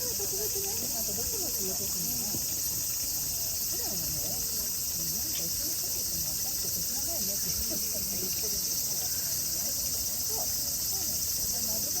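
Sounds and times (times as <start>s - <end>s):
voices chattering: 0.0s - 12.0s.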